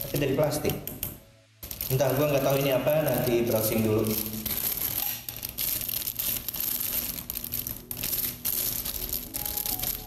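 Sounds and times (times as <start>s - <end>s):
packaging rustling: 1.7s - 10.0s
plastic parts clicking and rattling: 1.7s - 10.0s.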